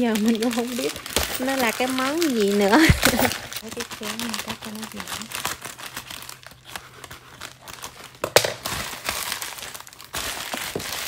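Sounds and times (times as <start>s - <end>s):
plastic bag ripped open: 0.0s - 11.0s
scissors cutting plastic bag: 0.0s - 11.0s.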